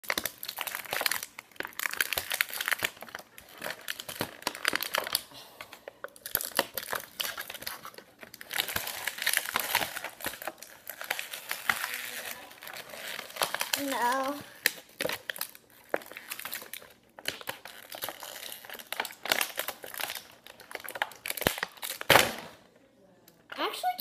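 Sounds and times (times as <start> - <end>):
plastic wrapping crinkling and tearing: 0.0 - 22.7.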